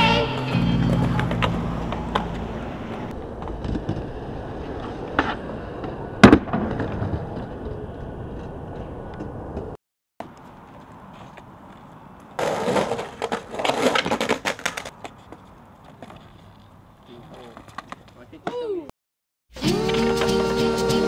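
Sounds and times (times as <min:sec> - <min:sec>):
skateboard wheels rolling on pavement: 0:00.0 - 0:18.6
skateboard cracking on ground: 0:00.8 - 0:09.6, 0:10.2 - 0:18.5.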